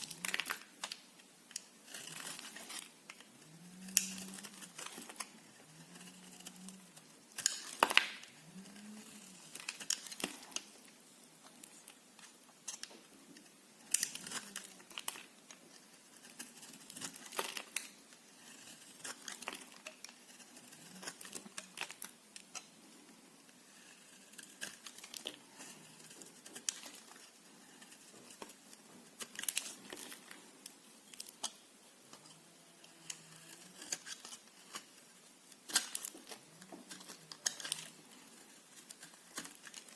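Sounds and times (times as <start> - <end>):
knife cutting soap crackling: 0.0 - 39.9.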